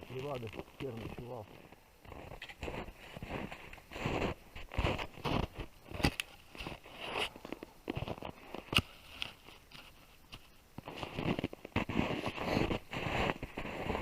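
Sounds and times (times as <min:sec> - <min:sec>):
crunching and scraping in snow: 0:00.0 - 0:14.0.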